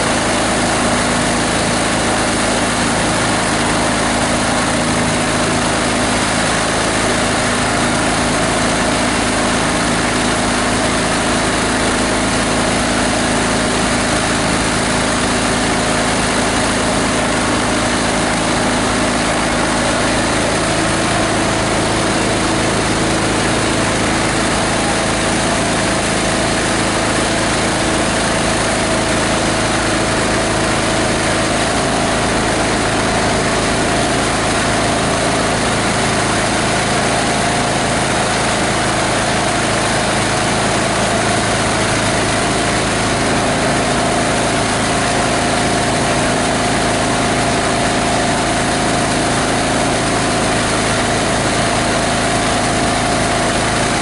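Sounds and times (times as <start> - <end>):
diesel engine running grinder: 0.0 - 54.0.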